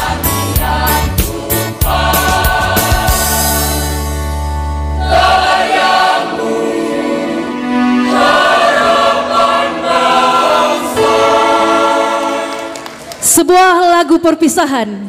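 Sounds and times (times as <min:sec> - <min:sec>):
large group singing a march: 0:00.0 - 0:04.1, 0:05.0 - 0:13.0.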